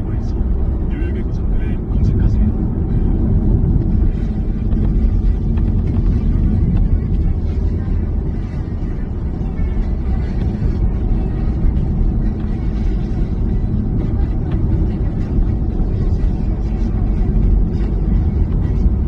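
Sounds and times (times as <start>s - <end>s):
car driving on road: 0.0s - 19.0s.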